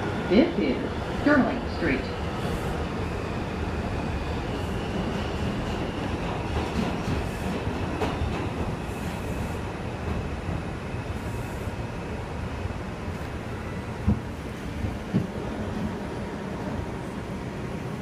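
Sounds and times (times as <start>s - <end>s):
subway wheels and motors rumbling: 0.0s - 18.0s.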